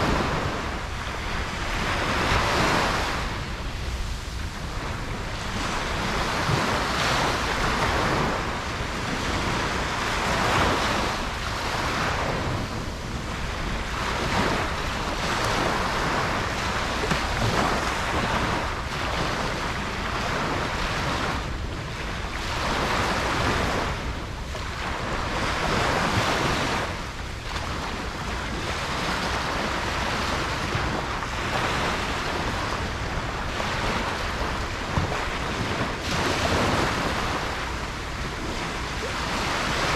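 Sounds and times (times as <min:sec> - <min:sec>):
ocean waves breaking: 0:00.0 - 0:39.9
wind noise on microphone: 0:00.0 - 0:39.9.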